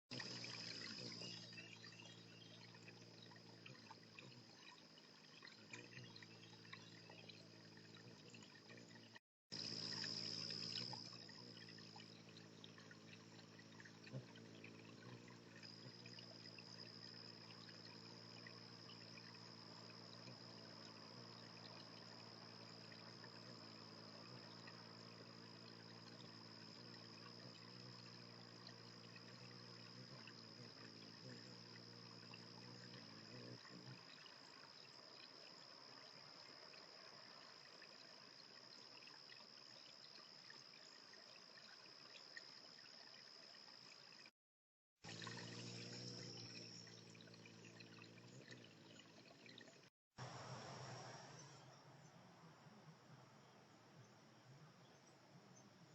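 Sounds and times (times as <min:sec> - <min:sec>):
faint trickling water: 0:00.1 - 0:44.3, 0:45.0 - 0:55.9.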